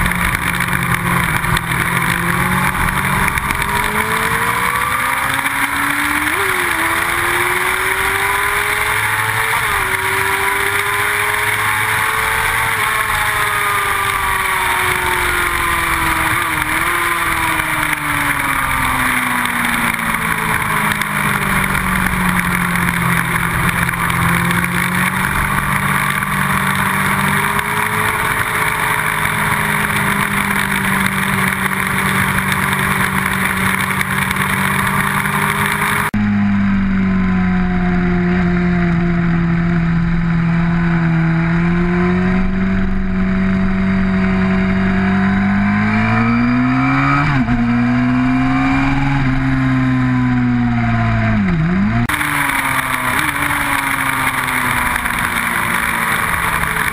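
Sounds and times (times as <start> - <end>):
motorcycle engine at speed: 0.0 - 56.9.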